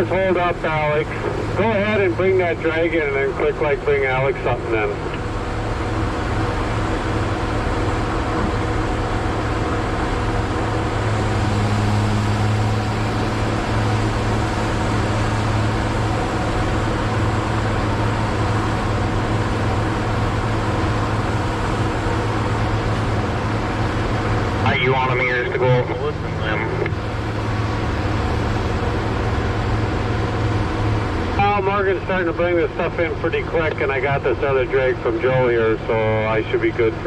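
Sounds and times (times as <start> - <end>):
heavy machine engine droning: 0.0 - 37.0
higher steady hum: 0.0 - 37.0.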